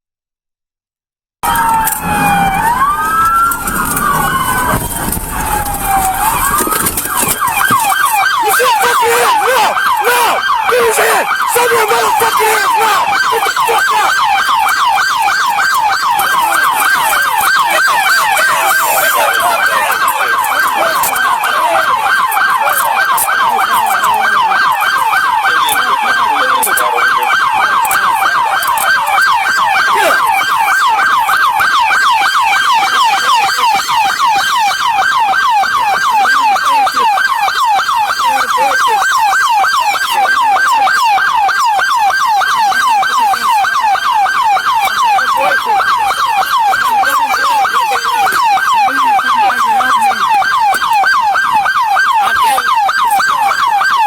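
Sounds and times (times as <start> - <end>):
police siren yelp: 1.4 - 54.0.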